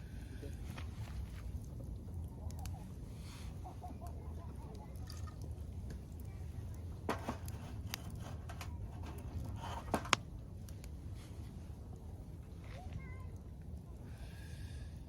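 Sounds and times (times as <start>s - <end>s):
campfire crackling and popping: 0.0s - 14.7s.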